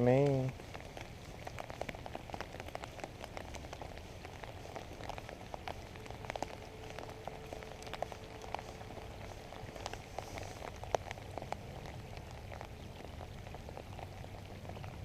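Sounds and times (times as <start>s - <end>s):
rain falling: 0.0s - 15.0s
raindrops ticking close by: 0.0s - 15.0s.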